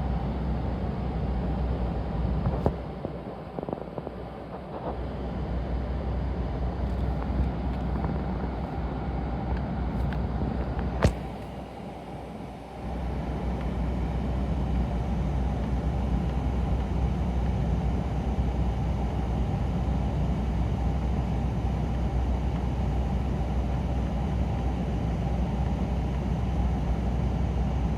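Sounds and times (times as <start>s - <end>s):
engine running with low hum: 0.0s - 27.9s.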